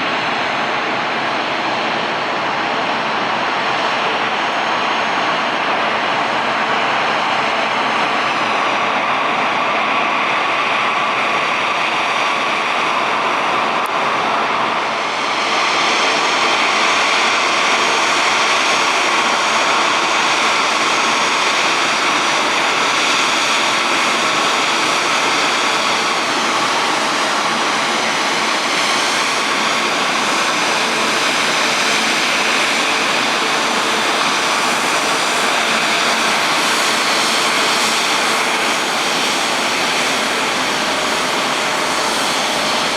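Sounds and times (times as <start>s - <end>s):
jet engine whine: 0.0s - 42.9s.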